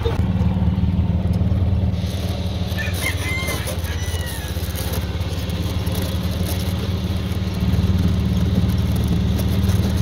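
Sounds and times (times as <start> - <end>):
small gasoline engine running: 0.0 - 10.0.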